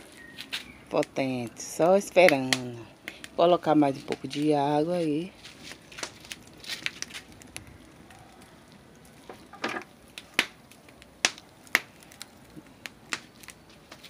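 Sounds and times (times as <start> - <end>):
firewood popping: 0.0 - 14.0
wood fire crackling: 0.0 - 14.0.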